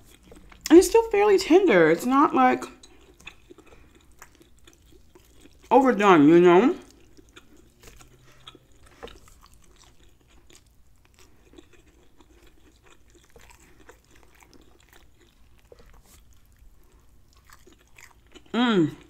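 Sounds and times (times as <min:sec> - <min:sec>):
person chewing: 0:00.0 - 0:00.7, 0:02.6 - 0:05.7, 0:06.8 - 0:19.0.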